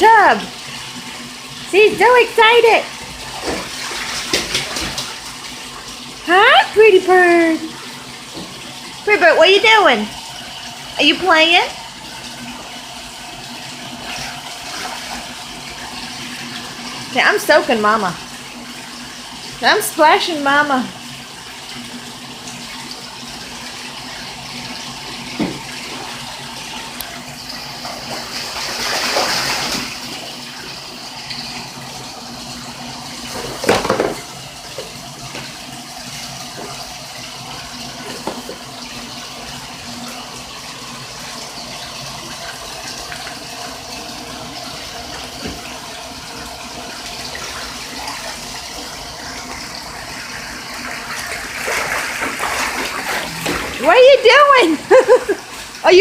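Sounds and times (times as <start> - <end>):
water sloshing and splashing: 0.2 - 11.0, 11.7 - 19.7, 20.8 - 56.0.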